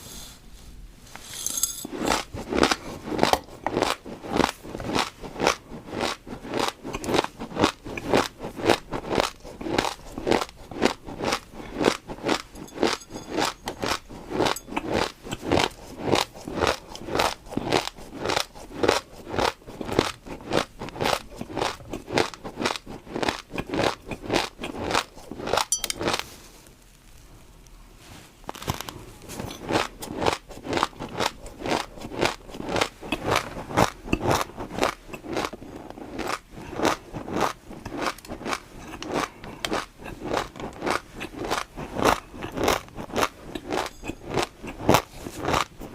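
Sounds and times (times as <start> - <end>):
crunchy chewing of food: 1.9 - 26.6, 28.5 - 45.9.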